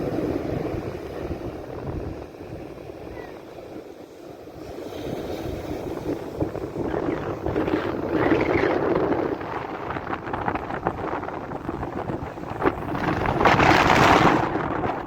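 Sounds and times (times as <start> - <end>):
wind buffeting microphone: 0.0 - 3.9, 4.5 - 15.0
sea surf rushing: 0.0 - 15.0.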